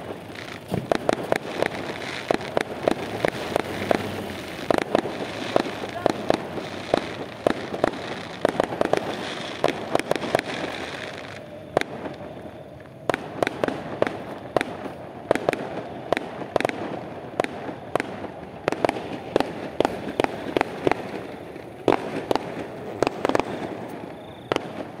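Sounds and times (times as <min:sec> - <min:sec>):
fireworks bangs: 0:00.0 - 0:25.0
hissing crackle of fireworks: 0:00.0 - 0:25.0.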